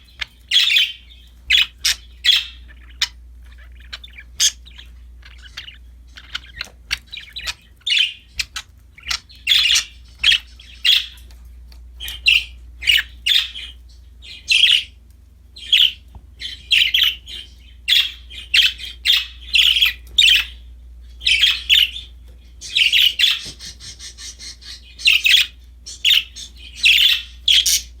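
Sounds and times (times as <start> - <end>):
budgies chirping and chattering: 0.0 - 28.0
faint low hum: 0.0 - 28.0.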